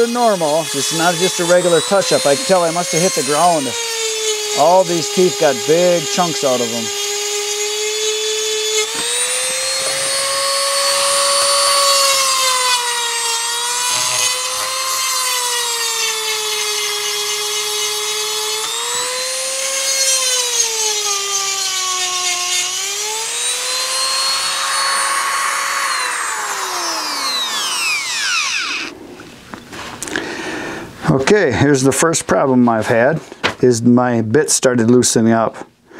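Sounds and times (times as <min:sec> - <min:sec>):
rotary tool grinding whine: 0:00.0 - 0:29.7.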